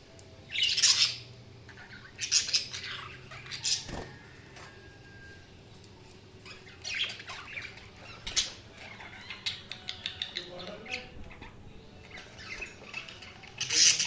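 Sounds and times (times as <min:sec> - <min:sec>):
budgerigars chirping and squawking: 0:00.5 - 0:04.7, 0:06.4 - 0:14.0.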